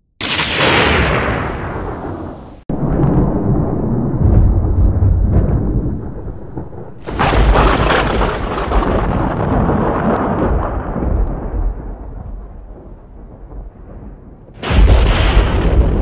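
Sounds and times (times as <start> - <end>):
thunder rumble and crack: 0.2 - 16.0.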